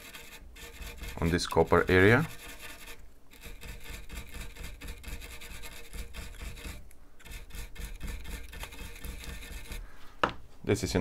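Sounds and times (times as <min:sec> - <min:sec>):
metal brush scrubbing: 0:00.0 - 0:10.0.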